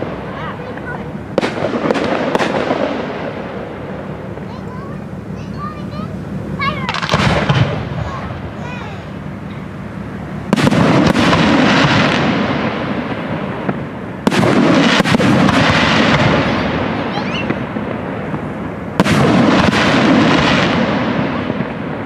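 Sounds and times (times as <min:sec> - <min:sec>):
firework shells booming: 0:00.0 - 0:22.0
rolling rumble: 0:00.0 - 0:22.0.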